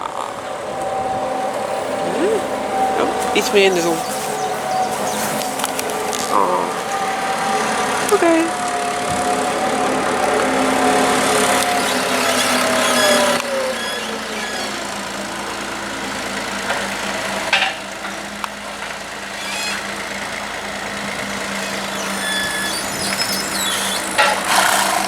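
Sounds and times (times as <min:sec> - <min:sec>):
tractor engine humming: 0:00.0 - 0:25.0.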